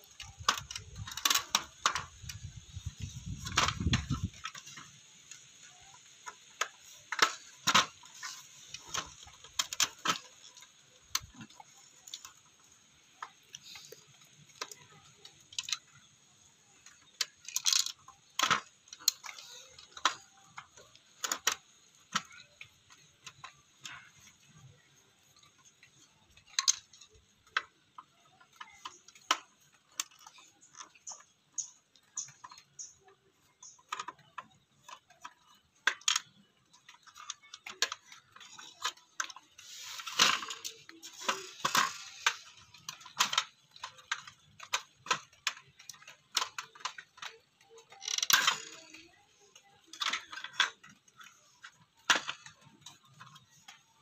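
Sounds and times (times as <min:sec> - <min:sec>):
plastic parts clicking: 0:00.0 - 0:54.0.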